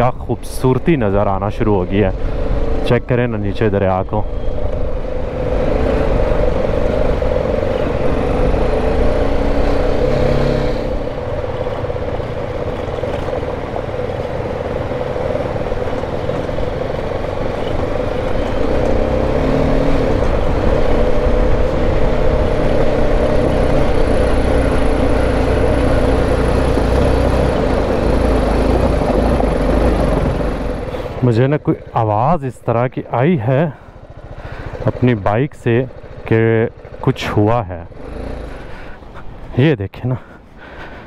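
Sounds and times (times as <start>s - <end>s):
motorcycle engine running: 0.0s - 39.5s
road and wind noise: 0.0s - 41.0s.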